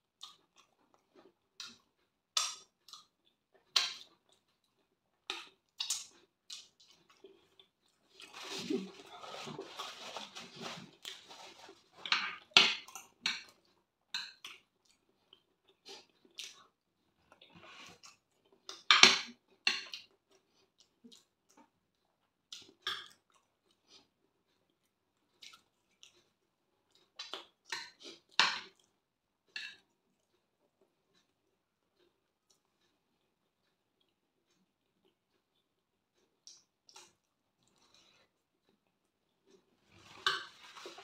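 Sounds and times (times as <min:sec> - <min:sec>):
wet chewing and lip smacks: 0:00.1 - 0:08.3, 0:12.9 - 0:18.9, 0:19.8 - 0:39.7.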